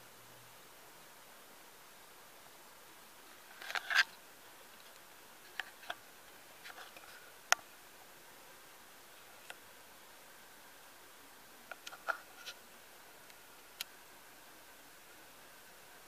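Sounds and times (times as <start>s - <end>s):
low steady hiss: 0.0s - 16.0s.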